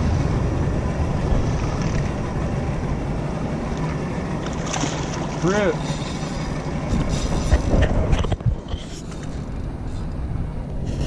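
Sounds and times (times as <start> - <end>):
boat engine rumbling: 0.0 - 11.0
water noise: 0.0 - 11.0
wind: 0.0 - 11.0.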